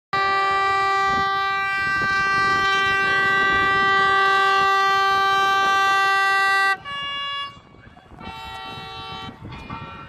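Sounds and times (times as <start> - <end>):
boat air horn blast: 0.1 - 10.0.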